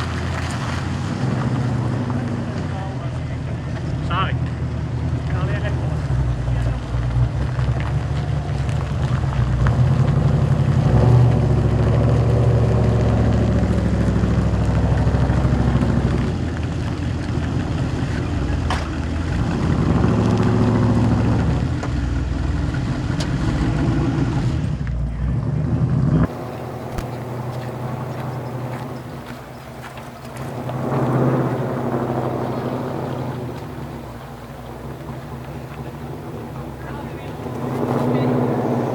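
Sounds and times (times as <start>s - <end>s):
large car engine rumbling: 0.0s - 38.9s.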